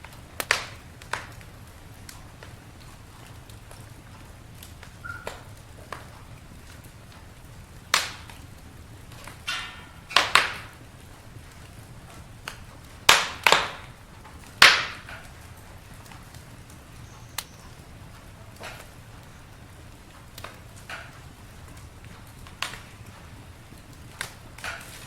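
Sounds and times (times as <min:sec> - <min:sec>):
low rumble of flames: 0:00.0 - 0:25.0
wood popping and snapping: 0:00.0 - 0:25.0.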